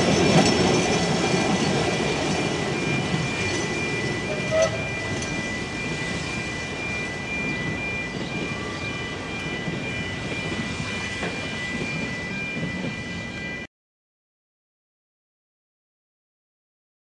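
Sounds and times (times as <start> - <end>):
high whine: 0.0 - 13.7
train rumbling: 0.0 - 13.7.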